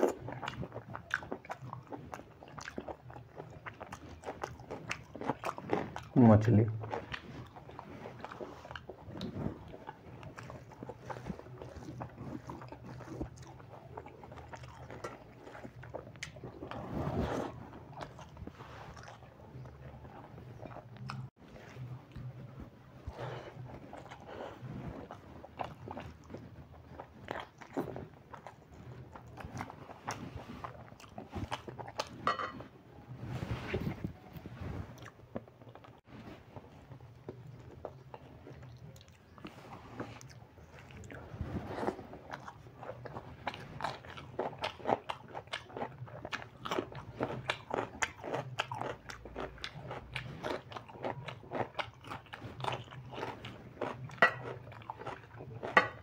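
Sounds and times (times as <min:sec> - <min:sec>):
man chewing food: 0:00.0 - 0:56.0.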